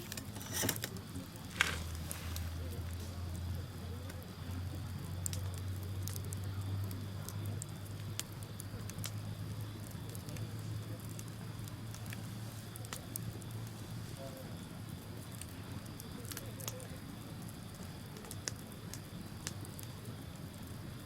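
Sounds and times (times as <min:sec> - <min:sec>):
bonfire crackling: 0:00.0 - 0:21.0
fire pops and snaps: 0:00.0 - 0:21.0.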